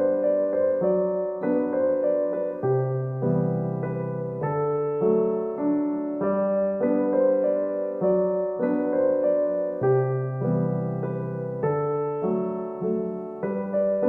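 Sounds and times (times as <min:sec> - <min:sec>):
gentle solo piano music: 0:00.0 - 0:14.0.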